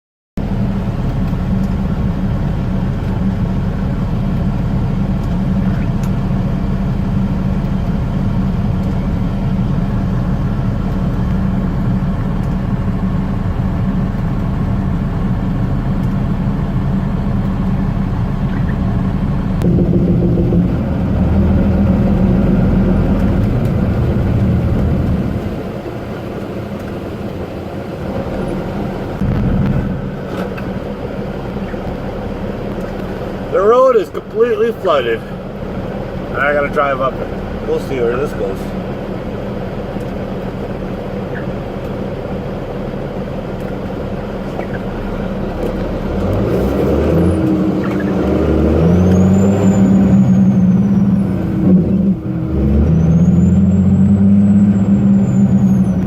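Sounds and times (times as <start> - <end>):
truck diesel engine running: 0.4 - 56.0.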